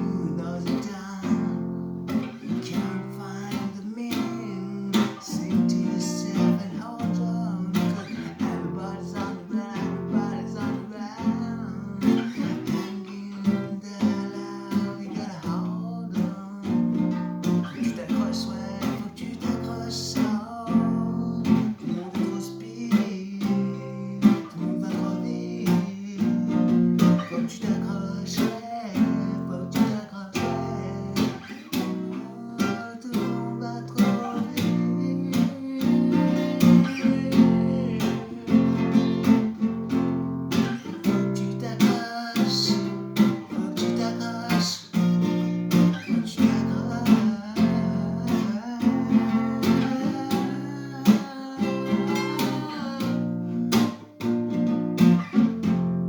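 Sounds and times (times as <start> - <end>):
faint voice singing: 0.0 - 54.1
acoustic guitar strumming: 0.0 - 56.0.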